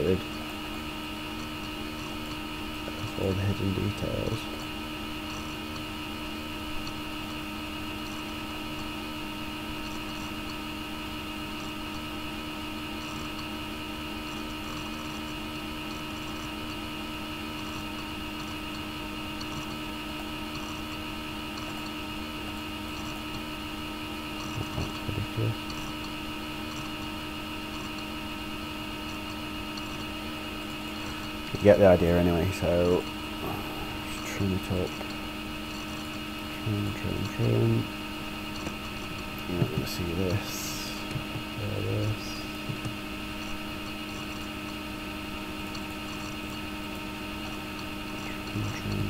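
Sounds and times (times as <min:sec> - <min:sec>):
fan and electrical hum: 0:00.0 - 0:49.0.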